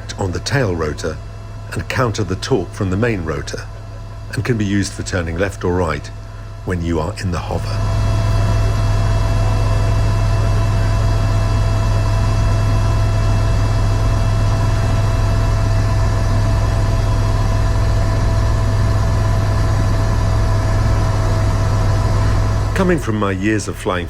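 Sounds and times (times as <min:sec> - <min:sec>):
constant whining tones: 0:00.0 - 0:24.0
helicopter engine and rotor drone: 0:00.0 - 0:24.0.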